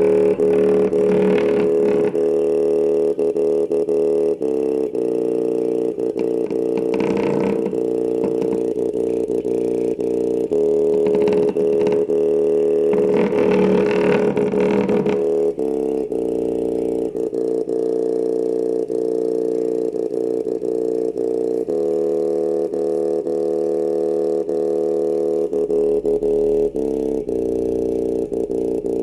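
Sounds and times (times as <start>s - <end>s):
buzzy bass tones from woofer: 0.0s - 29.0s.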